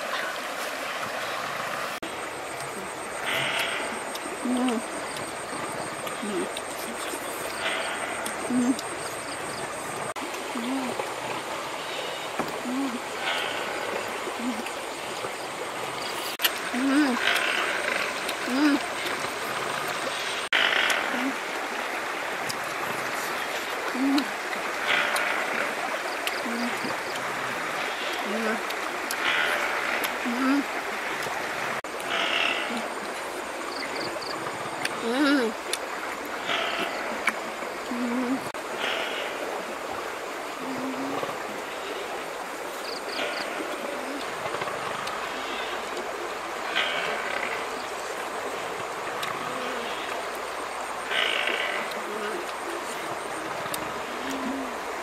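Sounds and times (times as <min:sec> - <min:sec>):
river rushing over stones: 0:00.0 - 0:04.4, 0:09.7 - 0:55.0.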